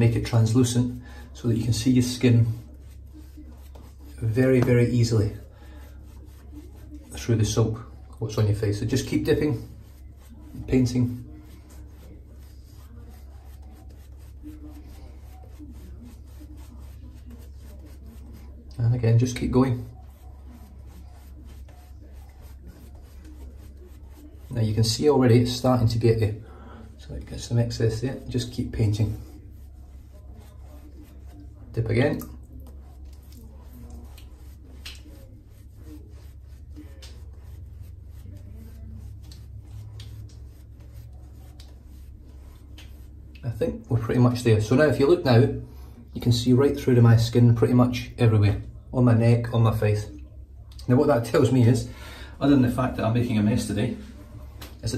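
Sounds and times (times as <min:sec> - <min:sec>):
shaving brush rubbing soap: 0:00.0 - 0:50.2, 0:50.8 - 0:54.9.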